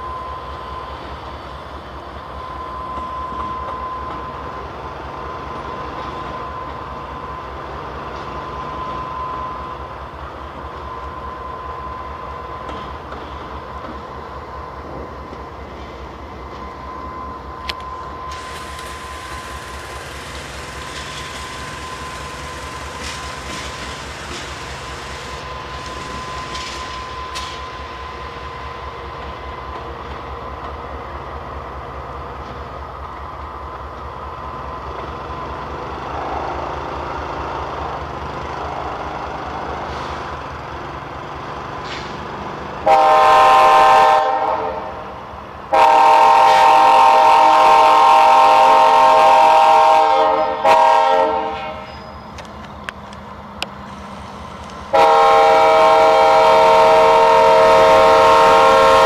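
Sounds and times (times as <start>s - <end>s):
train wheels hissing on rails: 0.0s - 59.0s.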